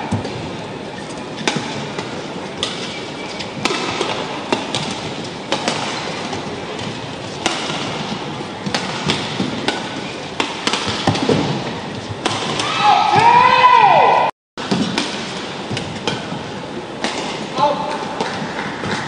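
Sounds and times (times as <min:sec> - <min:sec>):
rackets striking shuttlecock: 0:00.0 - 0:13.3, 0:14.6 - 0:19.0.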